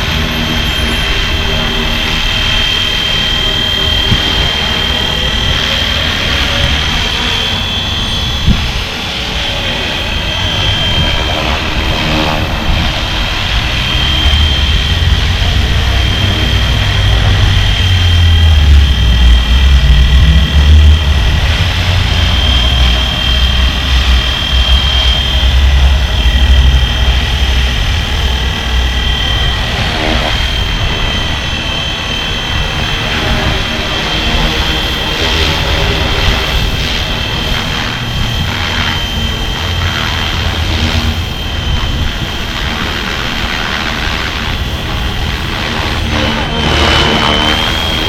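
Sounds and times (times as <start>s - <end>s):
low rumble: 0.0s - 48.0s
rc helicopter motor whine: 0.0s - 48.0s.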